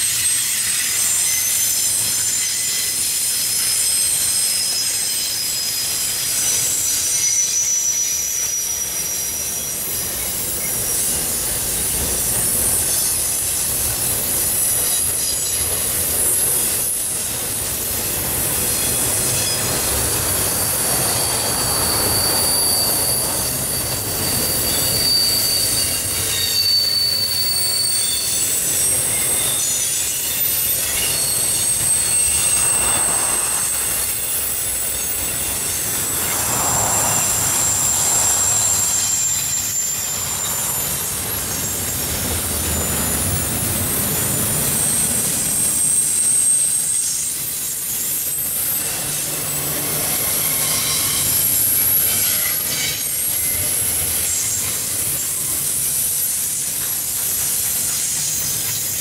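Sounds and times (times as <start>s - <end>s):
high-pitched wheel squeal: 0.0s - 57.0s
train wheels rumbling on rail: 0.0s - 59.0s.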